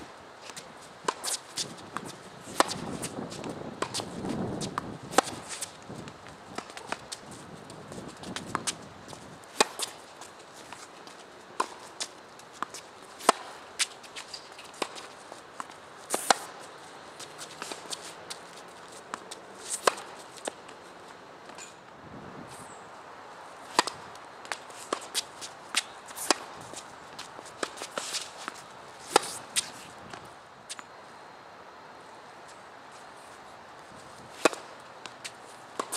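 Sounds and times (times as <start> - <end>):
shoes moving on court: 0.0 - 21.8, 22.5 - 30.9, 32.4 - 35.9
racquets striking tennis ball: 0.4 - 21.8, 23.6 - 30.9, 34.3 - 35.9
tennis ball bouncing: 0.5 - 20.8, 23.7 - 30.9, 34.4 - 35.9.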